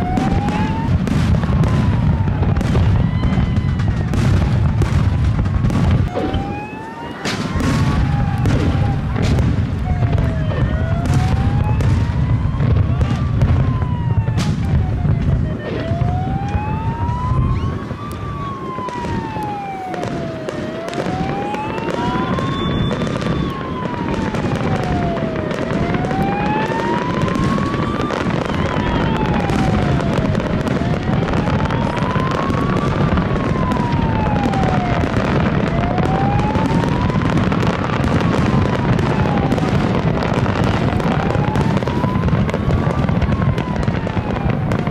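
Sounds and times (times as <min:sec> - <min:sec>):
firework shells booming: 0:00.0 - 0:44.9
fireworks crackling and popping: 0:00.0 - 0:44.9
siren wailing: 0:00.0 - 0:44.9.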